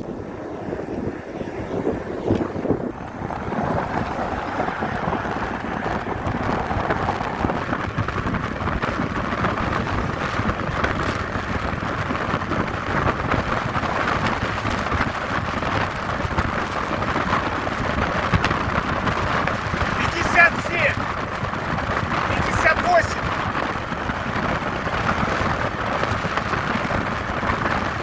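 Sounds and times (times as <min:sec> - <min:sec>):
road noise: 0:00.0 - 0:28.0
wind rushing over microphone: 0:00.0 - 0:28.0.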